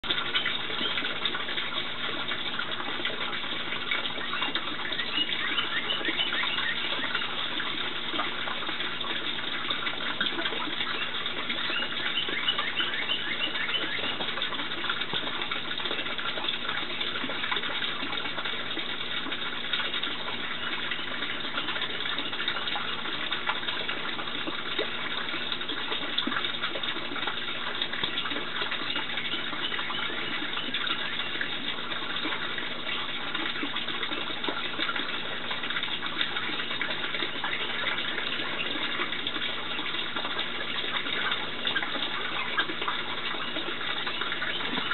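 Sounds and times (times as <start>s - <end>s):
running water: 0.0s - 44.9s.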